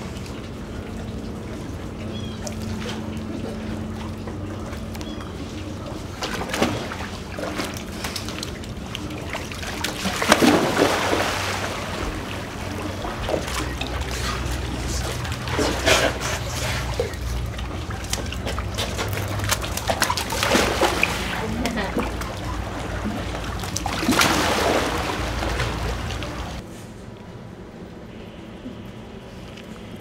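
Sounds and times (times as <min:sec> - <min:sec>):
sea lions splashing in water: 0:00.0 - 0:26.6
steady low hum: 0:00.0 - 0:30.0.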